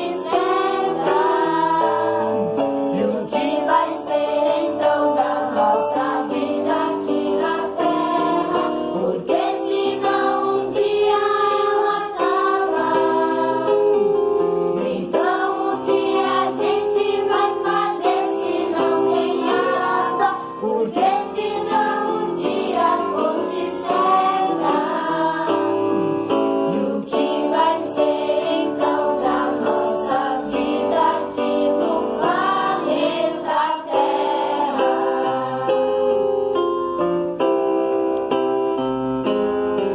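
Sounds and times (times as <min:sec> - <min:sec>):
people singing: 0:00.0 - 0:14.0, 0:14.7 - 0:25.8, 0:26.7 - 0:36.1
instrumental accompaniment: 0:00.0 - 0:39.9.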